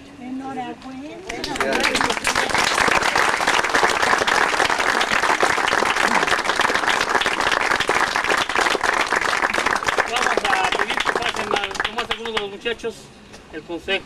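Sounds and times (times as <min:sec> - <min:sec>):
crowd applauding: 0:01.3 - 0:12.6.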